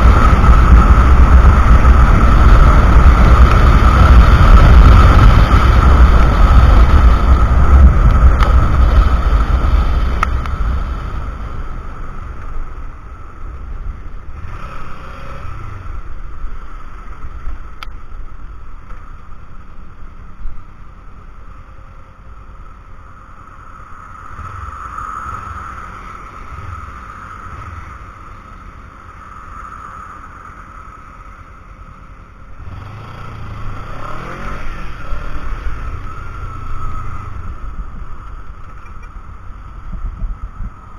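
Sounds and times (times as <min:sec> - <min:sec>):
wind rushing over microphone: 0:00.0 - 0:19.7, 0:22.5 - 0:40.9
motorcycle engine: 0:00.0 - 0:30.4, 0:32.3 - 0:40.9.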